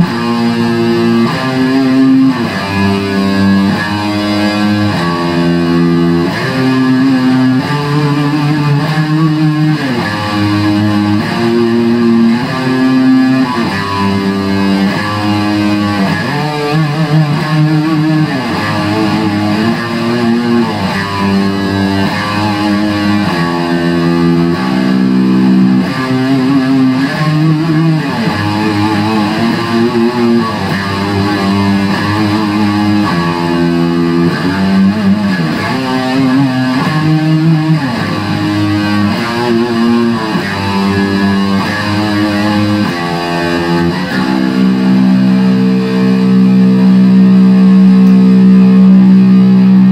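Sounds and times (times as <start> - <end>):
electric guitar heavy metal lead: 0.0 - 49.9.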